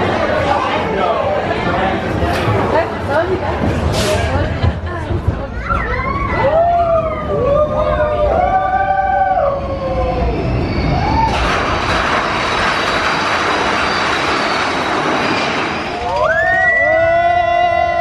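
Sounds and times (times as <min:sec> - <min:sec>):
roller coaster wind and track noise: 0:00.0 - 0:18.0.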